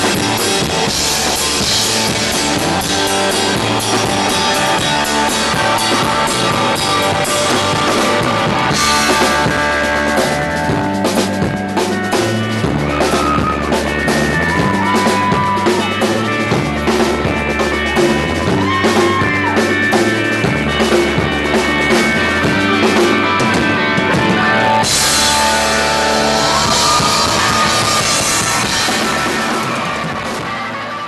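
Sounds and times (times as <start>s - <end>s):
rock band playing live: 0.0s - 31.0s.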